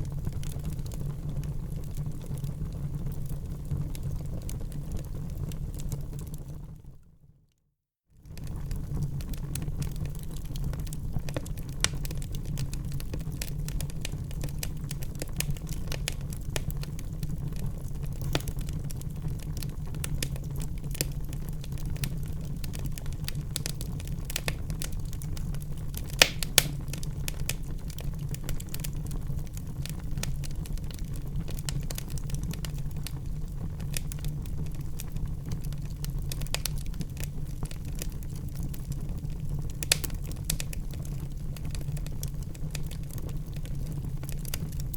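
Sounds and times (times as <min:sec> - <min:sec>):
wood fire crackling: 0:00.0 - 0:06.8, 0:08.3 - 0:44.9.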